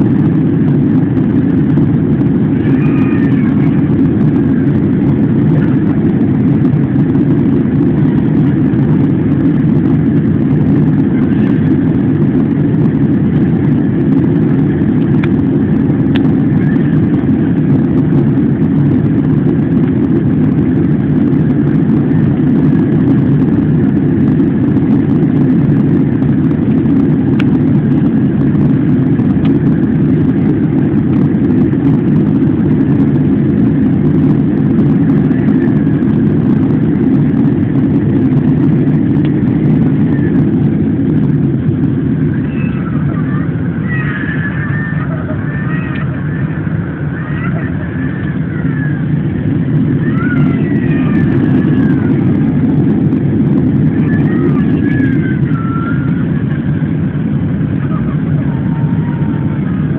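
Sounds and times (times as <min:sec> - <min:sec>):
airflow noise: 0:00.0 - 0:59.9
airplane cabin engine rumble: 0:00.0 - 0:59.9.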